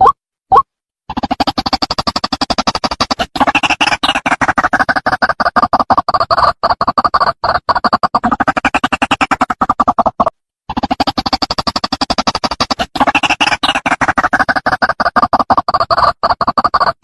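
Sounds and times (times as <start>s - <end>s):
bird harsh rapid clucking: 1.1s - 17.0s.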